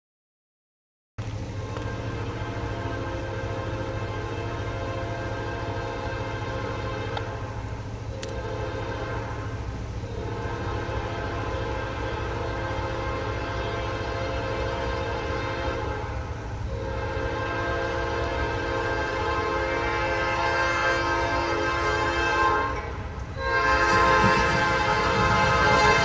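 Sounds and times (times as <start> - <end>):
passing train rumble: 1.2 - 26.0
locomotive horn blasts: 1.5 - 26.0.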